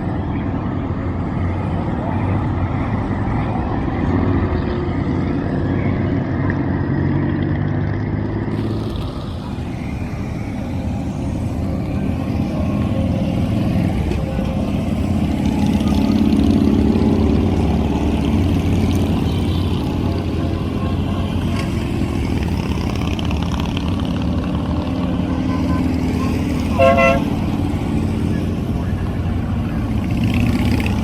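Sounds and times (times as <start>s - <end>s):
motorcycle engines running: 0.0s - 31.0s.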